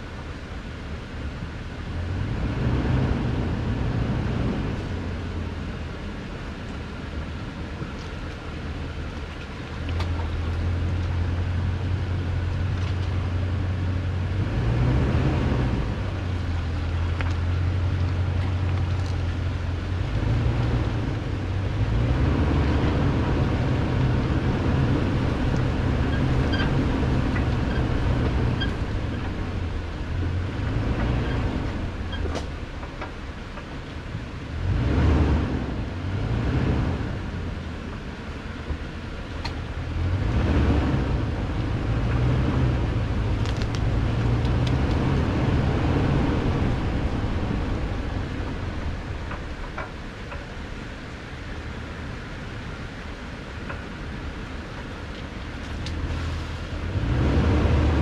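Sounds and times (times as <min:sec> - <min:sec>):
truck engine droning: 0:00.0 - 0:58.0.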